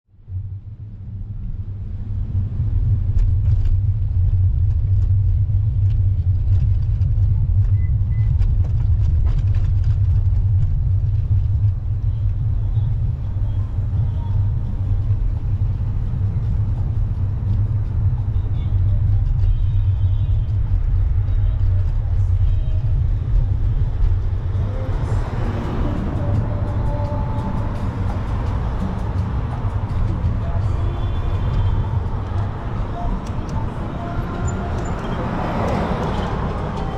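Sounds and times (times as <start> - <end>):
wind buffeting microphone: 0.4 - 36.9.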